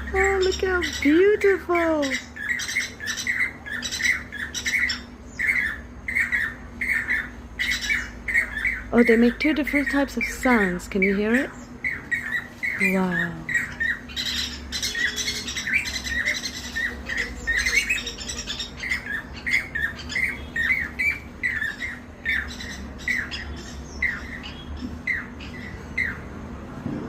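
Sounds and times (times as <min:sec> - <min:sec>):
birds chattering: 0:00.0 - 0:27.0
small birds calling: 0:00.0 - 0:27.0.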